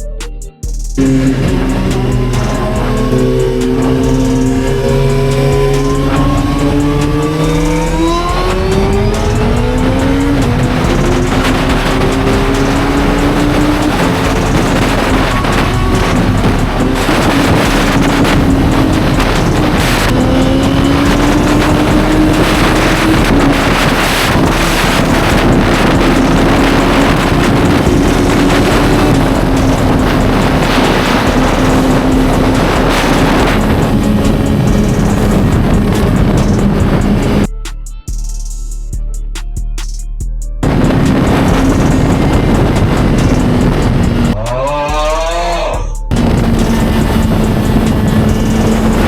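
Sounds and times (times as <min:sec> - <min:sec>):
music with steady beat: 0:00.0 - 0:49.0
wind noise on microphone: 0:00.0 - 0:49.0
motorcycle engine running: 0:00.7 - 0:37.5, 0:40.6 - 0:44.4, 0:46.0 - 0:49.0.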